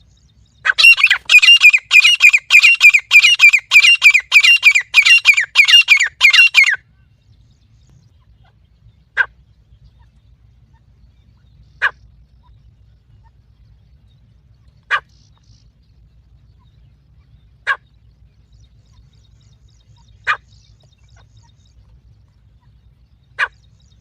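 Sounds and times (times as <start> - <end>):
francolin calling: 0.0 - 24.0.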